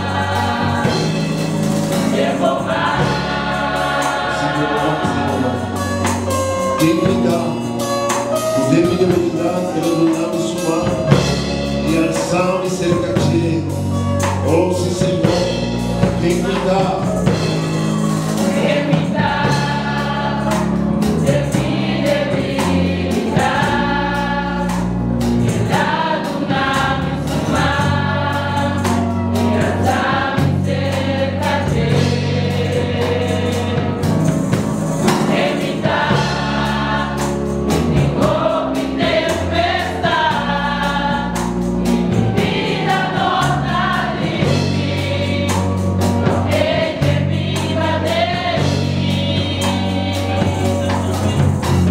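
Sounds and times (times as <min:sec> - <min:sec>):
choir singing gospel: 0:00.0 - 0:51.9
instrumental backing with bass and beat: 0:00.0 - 0:51.9.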